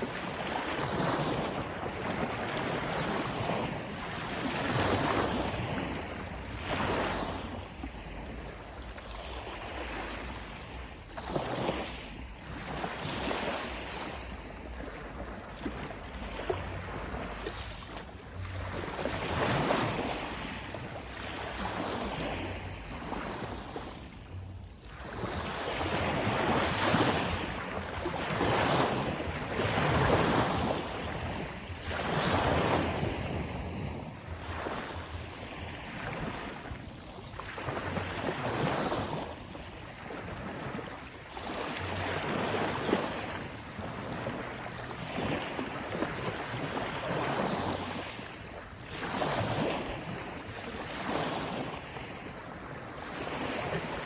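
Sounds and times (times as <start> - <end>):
sea waves washing in: 0.0 - 54.0
wind buffeting microphone: 0.0 - 54.0.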